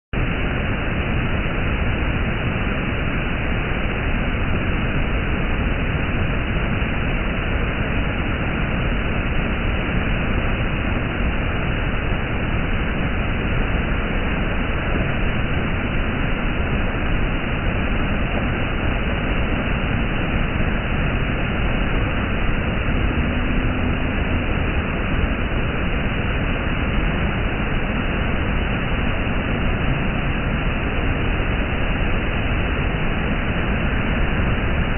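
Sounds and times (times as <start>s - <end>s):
waterfall roaring: 0.2s - 34.9s.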